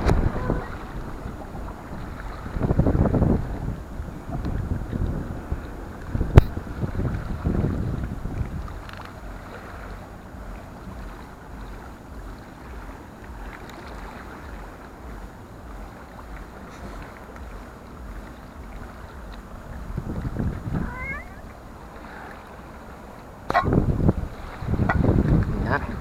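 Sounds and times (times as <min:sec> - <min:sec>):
steady outdoor hiss: 0:00.0 - 0:26.0
wind rumbling on microphone: 0:00.0 - 0:26.0.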